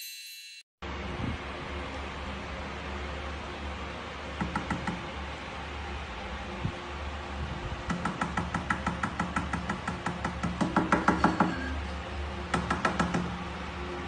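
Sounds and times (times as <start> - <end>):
steady low hum: 0.8 - 14.0.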